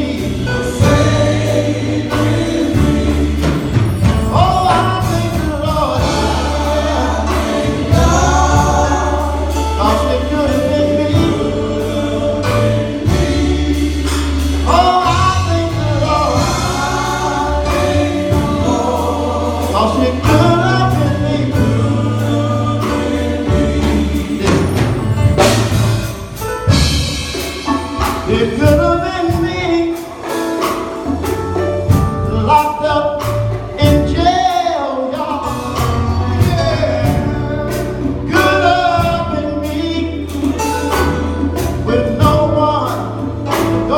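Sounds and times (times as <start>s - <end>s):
band with bass and drums: 0.0s - 43.9s
gospel choir singing: 0.0s - 43.9s.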